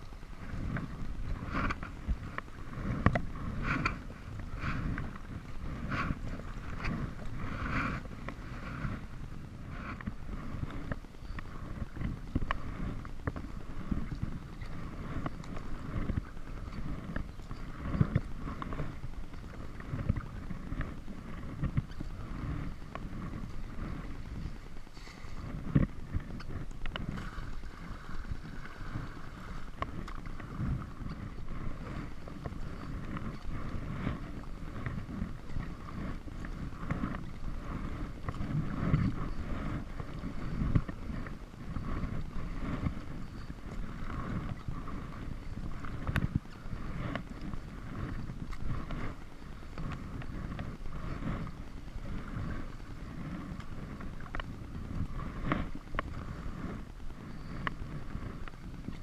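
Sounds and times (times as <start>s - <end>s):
water splashing around kayak: 0.0s - 59.0s
wind buffeting microphone: 0.0s - 59.0s.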